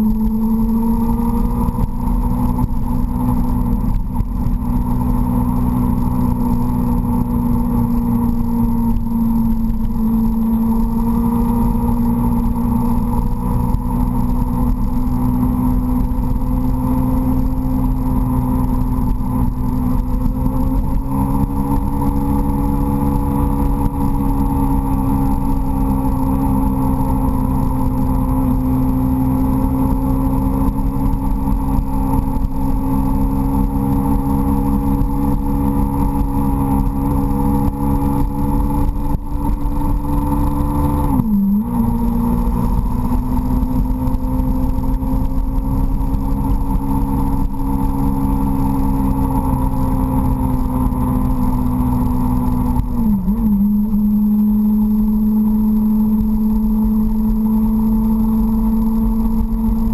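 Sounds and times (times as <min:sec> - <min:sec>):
low wind rumble on microphone: 0:00.0 - 0:59.9
motorcycle engine running: 0:00.0 - 0:59.9.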